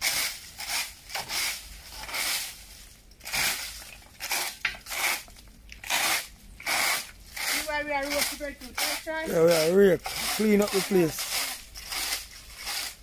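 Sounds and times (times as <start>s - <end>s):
rake scraping through debris: 0.0s - 13.0s.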